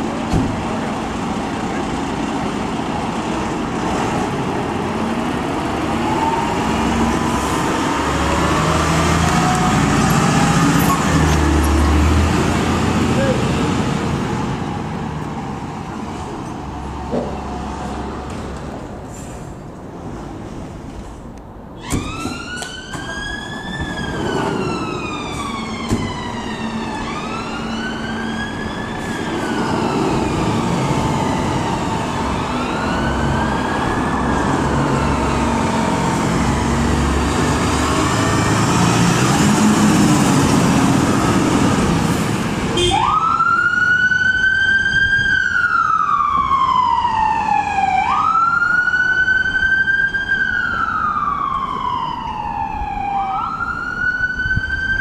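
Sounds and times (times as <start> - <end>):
fire engine siren wailing: 0.0 - 15.7, 21.8 - 55.0.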